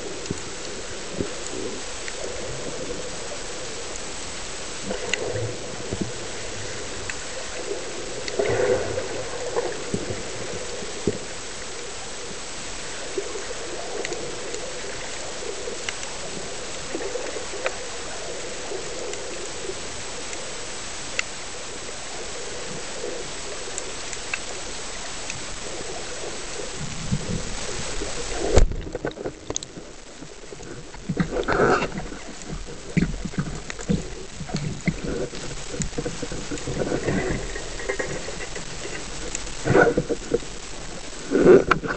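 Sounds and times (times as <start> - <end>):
faint clicks: 0.0 - 41.9
underwater hiss: 0.0 - 41.9.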